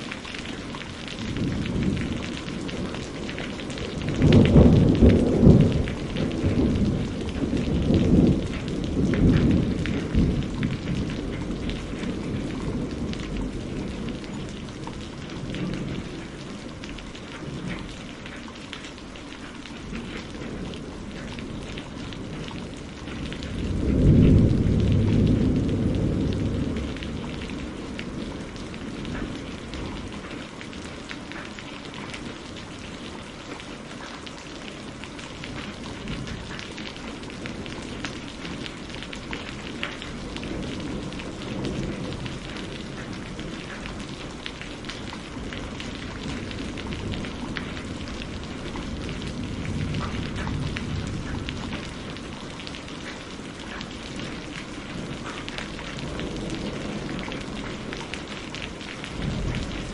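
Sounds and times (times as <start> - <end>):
thunder rumbling: 0.0 - 18.6, 19.7 - 33.6, 34.6 - 59.9
steady rain: 0.0 - 59.9.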